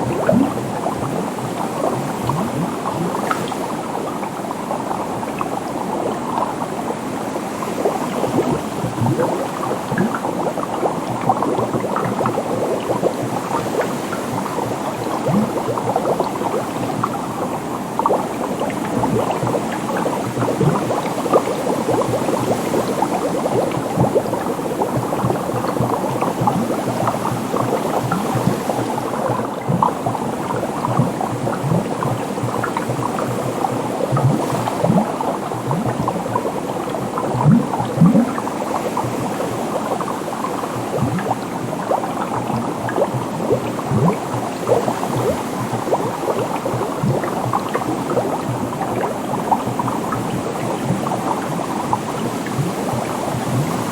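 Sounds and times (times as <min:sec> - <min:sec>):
water bubbling and gurgling: 0:00.0 - 0:53.9.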